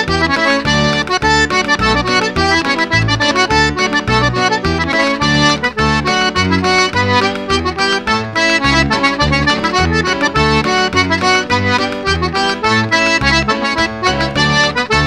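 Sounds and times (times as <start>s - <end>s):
button accordion dance tune: 0.0s - 15.0s.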